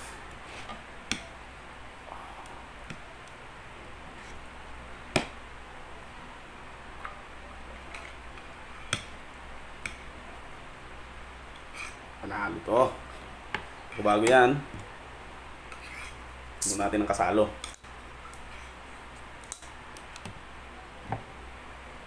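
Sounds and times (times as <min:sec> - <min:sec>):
faint room noise: 0:00.0 - 0:22.0.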